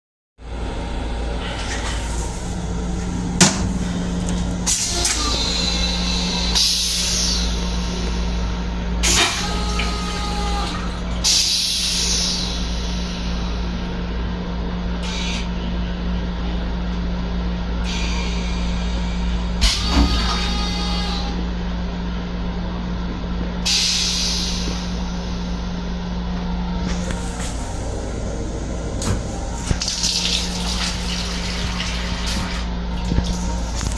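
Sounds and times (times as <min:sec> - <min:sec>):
electric railcar rumble and hum: 0:00.4 - 0:33.9.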